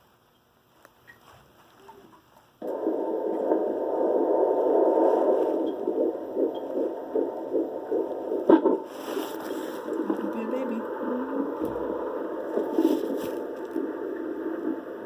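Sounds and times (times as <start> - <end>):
doppler speaker hiss: 0.0 - 15.0
fast rhythmic fetal heartbeat: 2.6 - 15.0.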